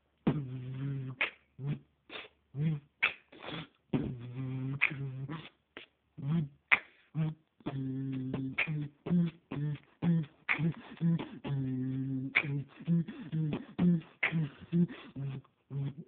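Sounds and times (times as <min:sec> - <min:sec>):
beatboxing: 0:00.3 - 0:16.0.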